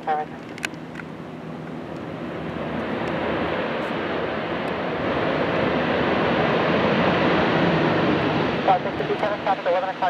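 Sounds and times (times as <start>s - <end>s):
jet engine roar: 0.0s - 10.0s.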